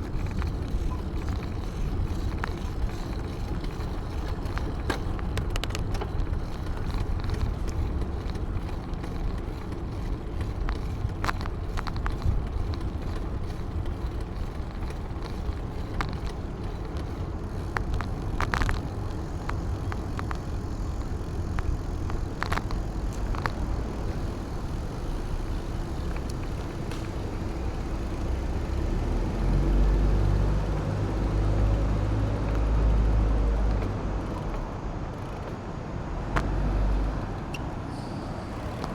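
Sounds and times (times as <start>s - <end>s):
wind buffeting microphone: 0.0s - 35.5s
road noise while cycling: 0.0s - 38.9s.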